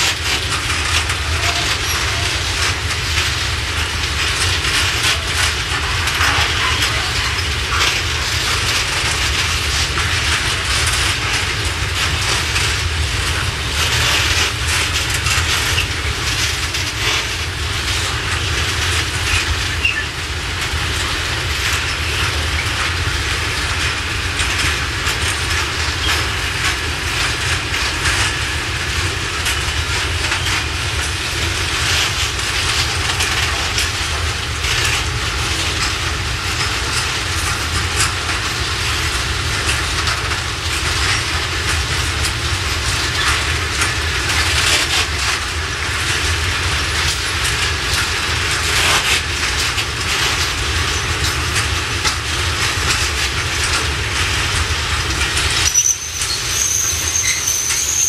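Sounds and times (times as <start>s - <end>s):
wagon wheels clattering over rail joints: 0.0s - 58.0s.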